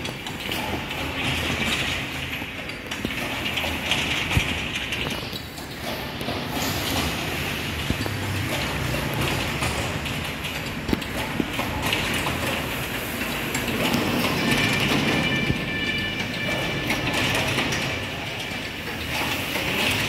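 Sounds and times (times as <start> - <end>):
workshop machinery clattering: 0.0 - 20.0.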